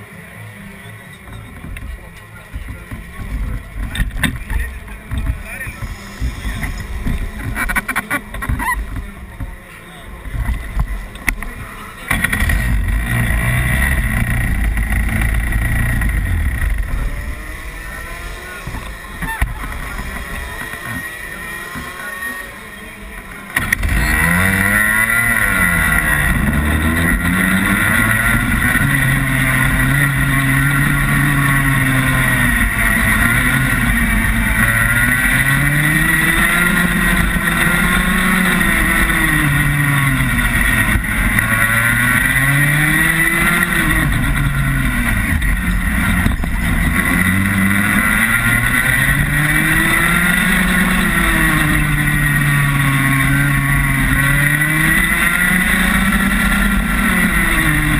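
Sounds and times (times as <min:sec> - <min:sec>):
kart engine revving: 0:00.0 - 0:57.9.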